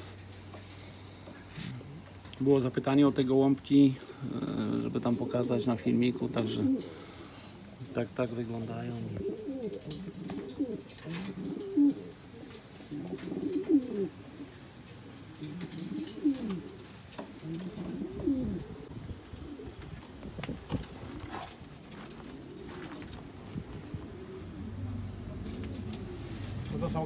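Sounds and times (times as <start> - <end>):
pigeons cooing: 0.0 - 27.0.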